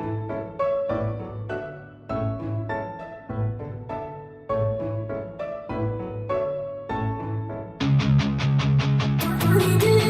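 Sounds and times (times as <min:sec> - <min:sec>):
piano-led instrumental music: 0:00.0 - 0:10.0.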